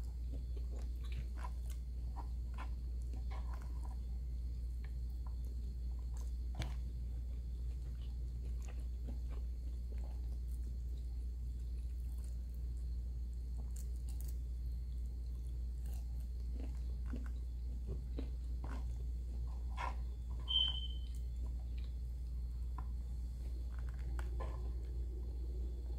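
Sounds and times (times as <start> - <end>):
person chewing food: 0.0 - 25.9
steady low hum: 0.0 - 25.9.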